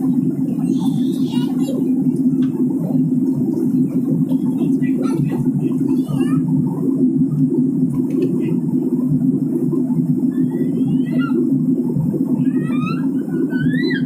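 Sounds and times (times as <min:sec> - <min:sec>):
airliner cabin drone: 0:00.0 - 0:14.0
faint high warbling glides: 0:00.0 - 0:14.0.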